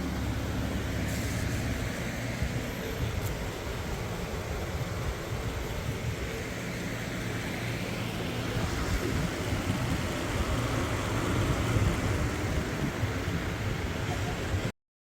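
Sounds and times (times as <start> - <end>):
car engine humming: 0.0 - 14.7.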